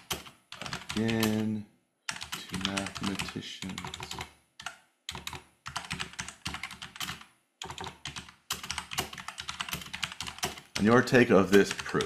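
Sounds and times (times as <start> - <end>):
typing on a keyboard: 0.0 - 1.5, 2.1 - 12.0.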